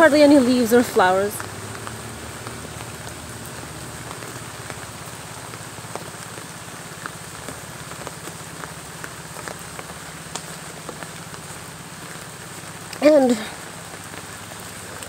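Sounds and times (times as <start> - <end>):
raindrops ticking: 0.0 - 15.0
steady rain hiss: 0.0 - 15.0.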